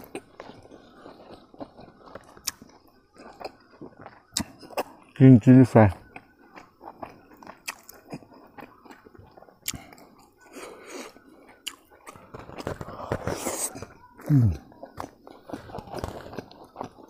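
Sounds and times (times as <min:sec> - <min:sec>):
person chewing food closely: 0:00.0 - 0:17.0.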